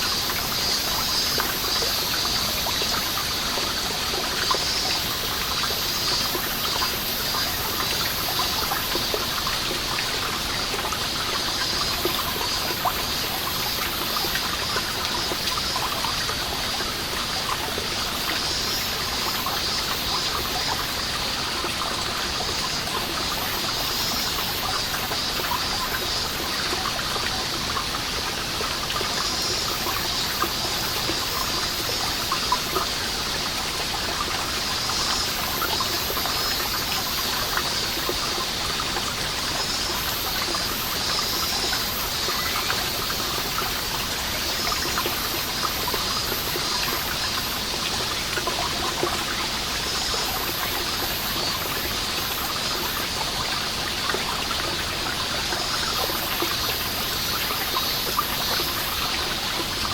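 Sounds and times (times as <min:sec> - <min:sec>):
cicadas calling: 0:00.0 - 0:59.9
water trickling: 0:00.0 - 0:59.9.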